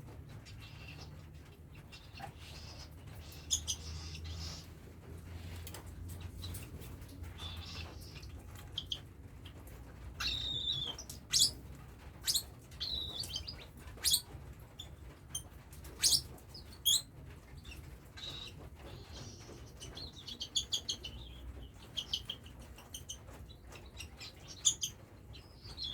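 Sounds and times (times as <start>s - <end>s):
chicks chirping: 0.3s - 5.1s, 5.8s - 25.9s.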